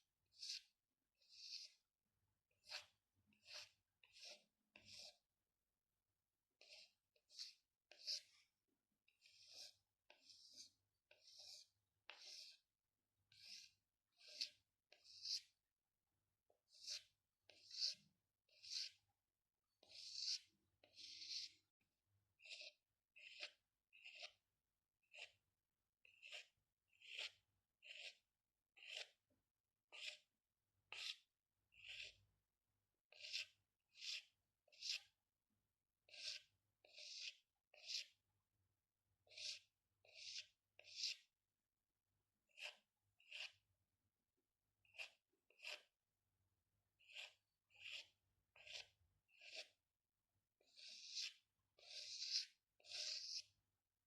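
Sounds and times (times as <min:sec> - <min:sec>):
pencil scratching on paper: 0:00.0 - 0:05.4, 0:06.6 - 0:15.7, 0:16.5 - 0:29.3, 0:29.9 - 0:35.4, 0:36.0 - 0:38.4, 0:39.1 - 0:41.5, 0:42.3 - 0:43.9, 0:44.8 - 0:46.2, 0:46.8 - 0:50.0, 0:50.6 - 0:53.7.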